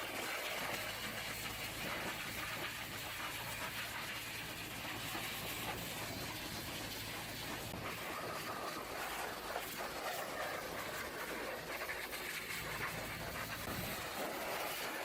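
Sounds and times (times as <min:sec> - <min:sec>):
high-pressure water spray hissing: 0:00.0 - 0:15.0.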